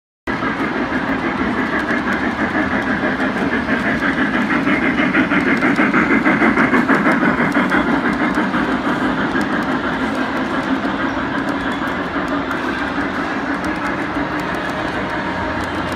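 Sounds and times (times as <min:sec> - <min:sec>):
fast rhythmic clicking: 0:00.3 - 0:15.9
model train wheels rumbling: 0:00.3 - 0:15.9.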